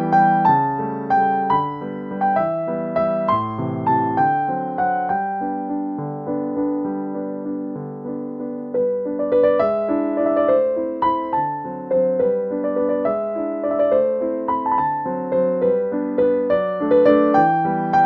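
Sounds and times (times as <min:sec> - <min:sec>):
light piano music: 0:00.0 - 0:18.0.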